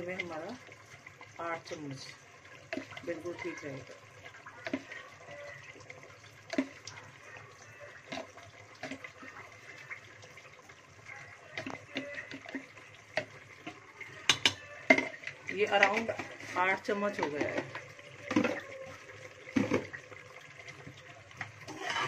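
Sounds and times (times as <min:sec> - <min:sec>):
paste bubbling and sizzling: 0:00.0 - 0:22.0.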